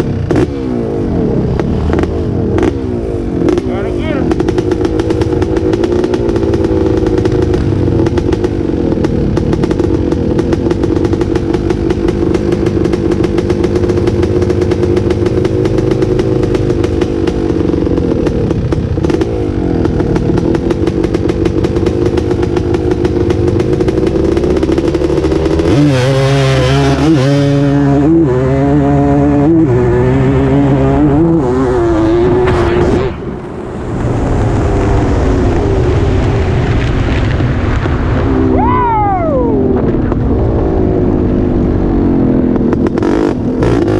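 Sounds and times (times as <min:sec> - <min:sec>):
dirt bike engine revving: 0:00.0 - 0:34.0, 0:38.3 - 0:43.9
atv engine revving: 0:00.0 - 0:43.9.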